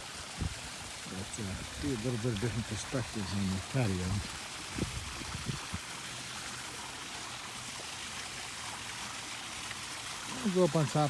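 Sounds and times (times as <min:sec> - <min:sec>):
running water from pond waterfall: 0:00.0 - 0:11.0.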